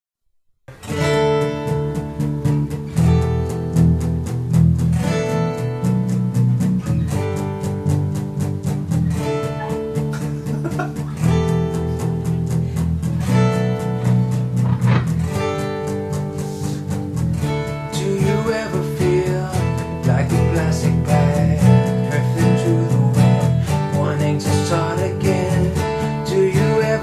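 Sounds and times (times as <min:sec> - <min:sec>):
guitar strumming: 0:00.7 - 0:27.0.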